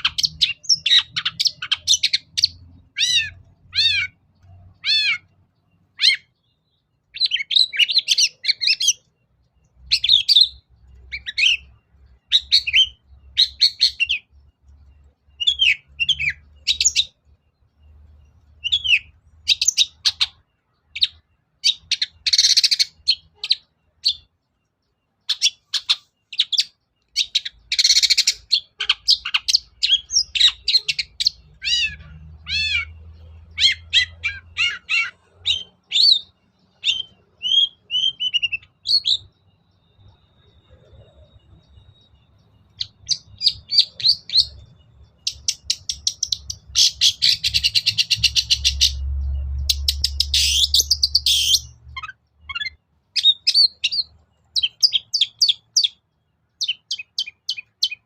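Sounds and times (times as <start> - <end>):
shrike singing chattering song: 0.0 - 58.0.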